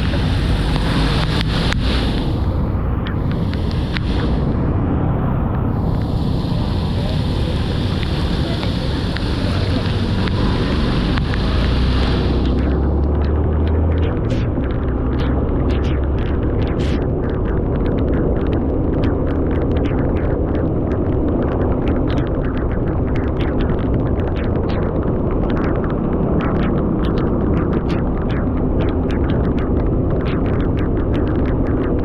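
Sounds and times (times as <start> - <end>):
raindrops hitting close by: 0.0 - 31.9
low rain rumble: 0.0 - 32.0.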